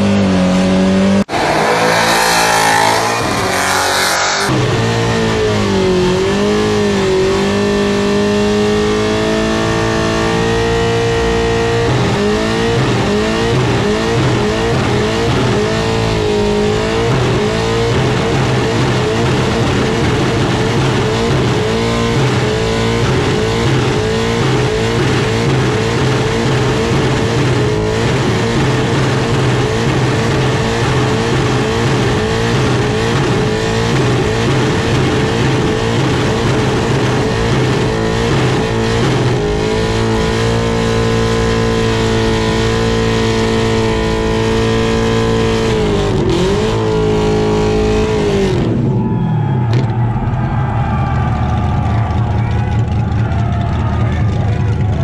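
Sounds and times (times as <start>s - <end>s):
engine revving at high revs: 0.0s - 48.8s.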